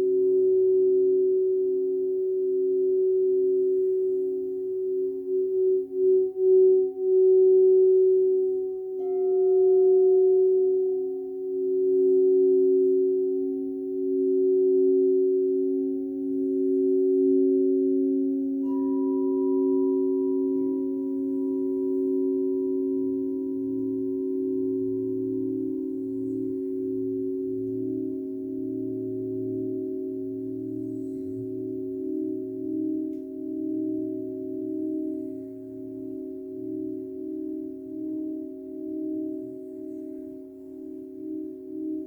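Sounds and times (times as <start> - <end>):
crystal singing bowls ringing: 0.0 - 42.0.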